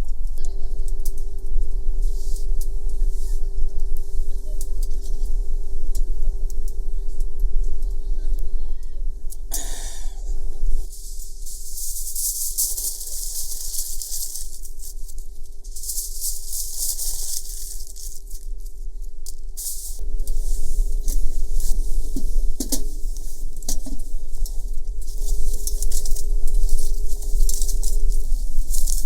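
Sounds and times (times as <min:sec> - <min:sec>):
low rumble: 0:00.0 - 0:29.0
wood fire crackling and hissing: 0:00.0 - 0:29.0.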